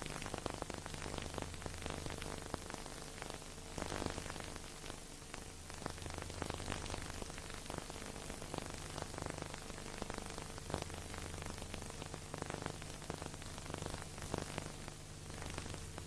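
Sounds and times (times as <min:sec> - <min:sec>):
crackles and clicks: 0:00.0 - 0:16.0
steady hiss: 0:00.0 - 0:16.0.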